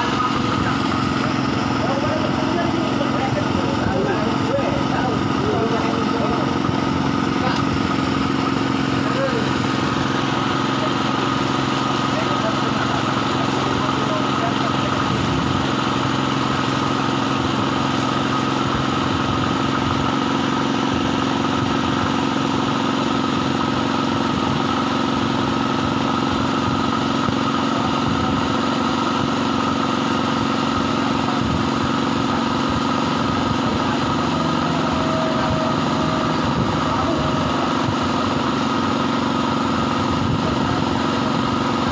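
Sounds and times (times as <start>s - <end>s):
small engine running steadily: 0.0s - 41.9s.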